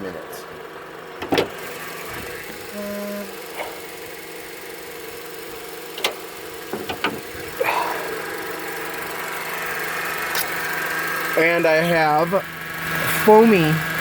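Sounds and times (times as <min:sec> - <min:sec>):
car engine idling: 0:00.0 - 0:14.0
power steering pump whine: 0:00.0 - 0:14.0.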